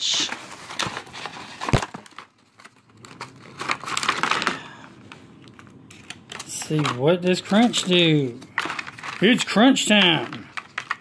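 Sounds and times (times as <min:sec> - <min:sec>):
stiff plastic crinkling: 0:00.0 - 0:11.0.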